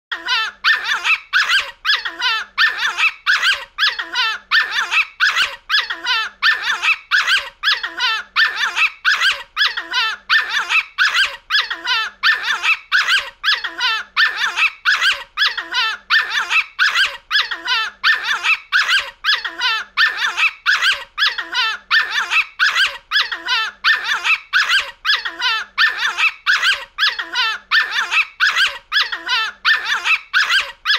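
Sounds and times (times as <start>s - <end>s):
small dog barking and yelping: 0.1s - 30.9s.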